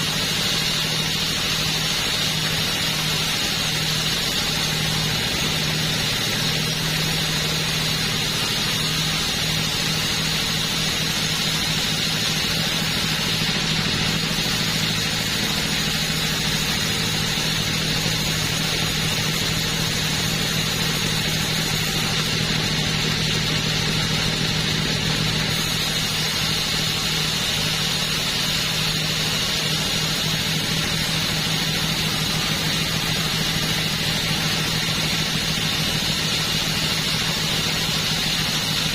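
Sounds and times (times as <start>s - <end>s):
two-stroke chainsaw running: 0.0s - 38.9s.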